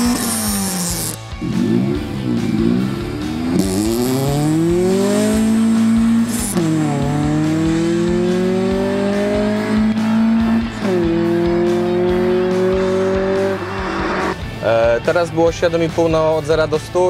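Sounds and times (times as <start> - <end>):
car engine accelerating: 0.0 - 14.4.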